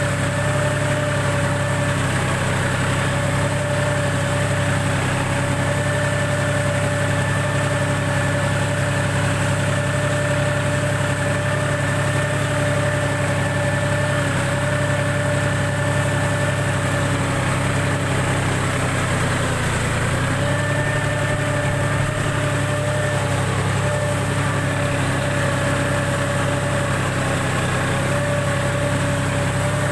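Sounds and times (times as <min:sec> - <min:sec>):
tractor diesel engine under load: 0:00.0 - 0:29.9.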